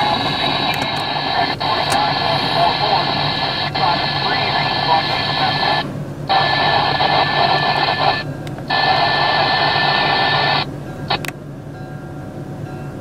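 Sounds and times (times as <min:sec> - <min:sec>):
radio squelch burst: 0:00.0 - 0:10.7
static-filled radio transmissions: 0:00.0 - 0:11.3.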